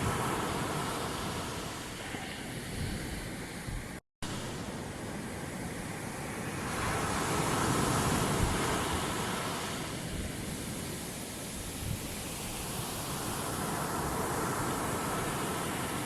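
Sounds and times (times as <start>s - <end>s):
steady wash of water: 0.0s - 16.0s.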